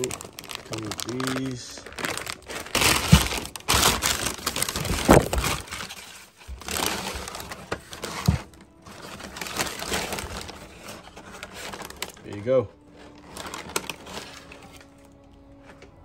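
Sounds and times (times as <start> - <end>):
packing paper crumpling: 0.0 - 16.0.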